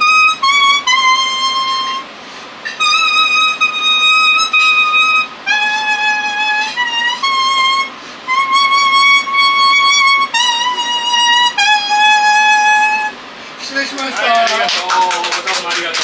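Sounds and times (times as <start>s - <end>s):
leaf whistle melody: 0.0s - 13.2s.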